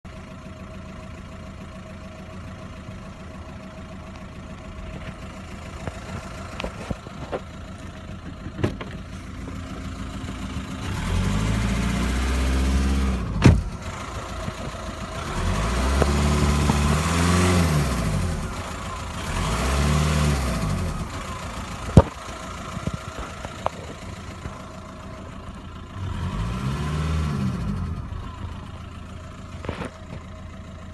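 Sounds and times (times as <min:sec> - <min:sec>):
diesel engine idling and revving: 0:00.0 - 0:30.9.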